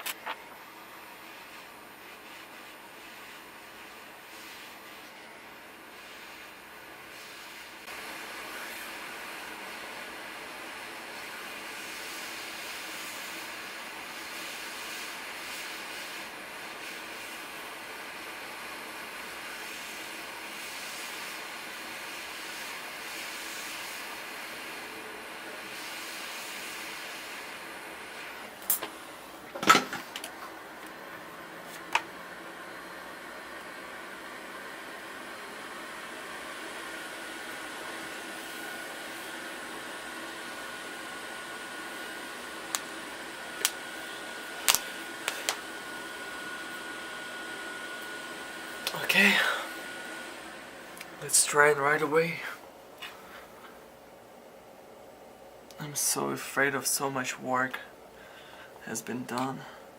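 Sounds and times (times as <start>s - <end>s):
hiss of blowing air: 0.9s - 30.3s, 30.9s - 53.8s.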